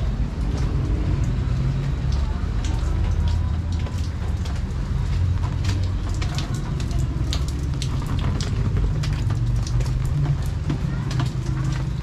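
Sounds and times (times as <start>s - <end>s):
rain drops hitting: 0.0s - 12.0s.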